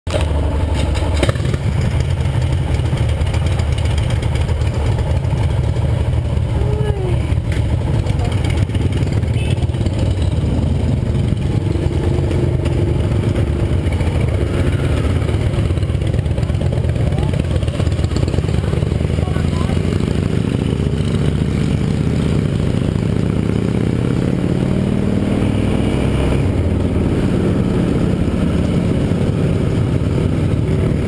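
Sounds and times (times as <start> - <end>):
motorcycle engine running: 0.1 - 31.0.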